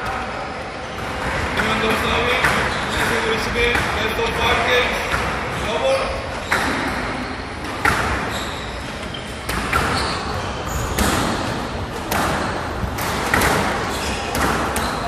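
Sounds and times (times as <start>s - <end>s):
squash ball hitting rackets and walls: 0.0s - 15.0s.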